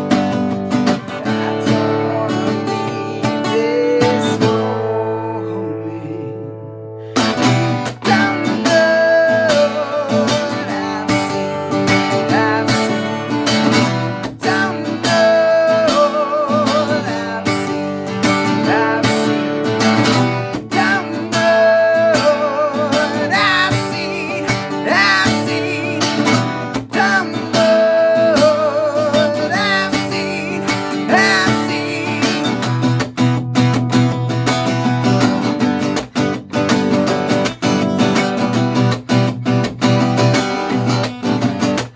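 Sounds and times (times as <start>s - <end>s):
acoustic guitar music: 0.0s - 41.9s.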